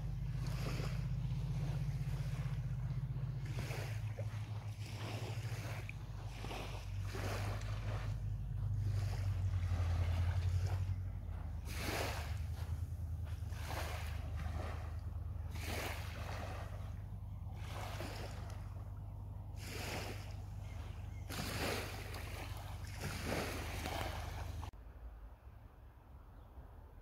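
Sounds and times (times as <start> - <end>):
waves washing onto sandy shore: 0.0 - 24.7
wind rumble on microphone: 0.0 - 24.7.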